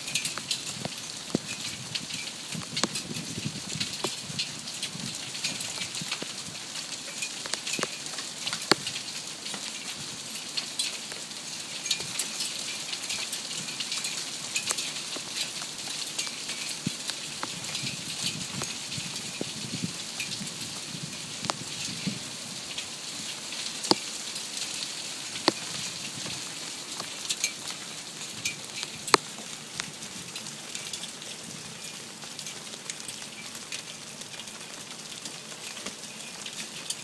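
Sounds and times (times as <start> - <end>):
hail pattering on a roof: 0.0 - 37.0
sharp hailstone clicks: 0.1 - 19.6, 23.5 - 37.0.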